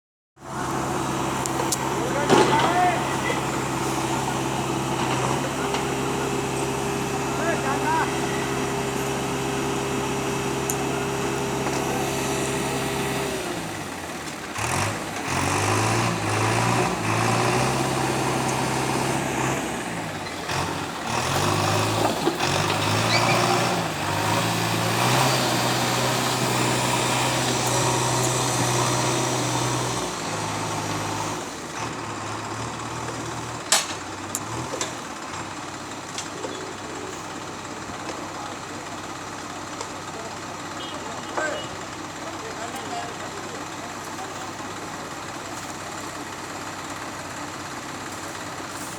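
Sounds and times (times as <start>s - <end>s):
heavy diesel engines revving: 0.4s - 48.9s.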